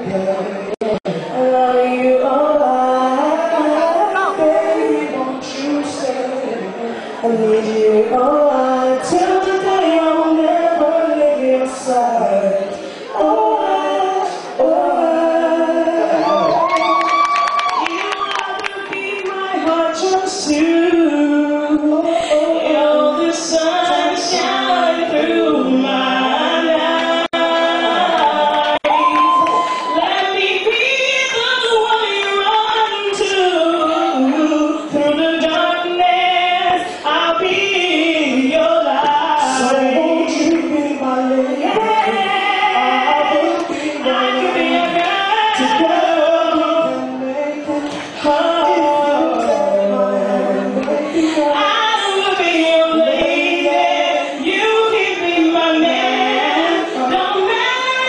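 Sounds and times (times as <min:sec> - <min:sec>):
woman singing through pa: 0:00.0 - 0:58.0.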